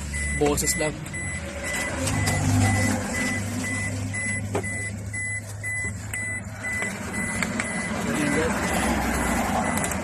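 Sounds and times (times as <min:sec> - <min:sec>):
high-pitched electronic beeps: 0:00.0 - 0:08.6.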